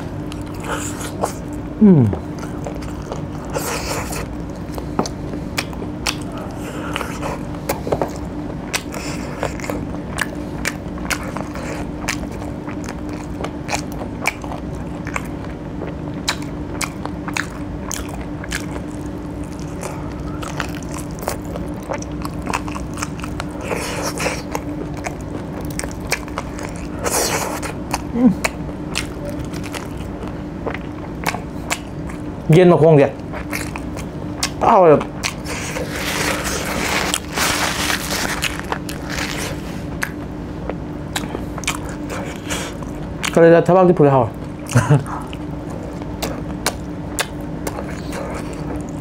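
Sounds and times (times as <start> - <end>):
biting and chewing food: 0.0 - 32.6, 33.2 - 43.5, 44.3 - 49.0
steady low hum: 0.0 - 49.0.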